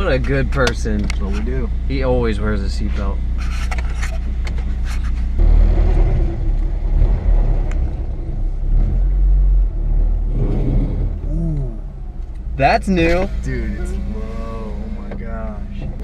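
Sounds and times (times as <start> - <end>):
car engine and exhaust rumble: 0.0 - 16.0.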